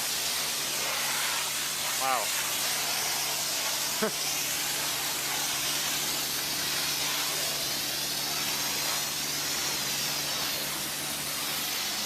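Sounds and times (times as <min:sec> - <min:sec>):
water spray hissing: 0:00.0 - 0:12.0.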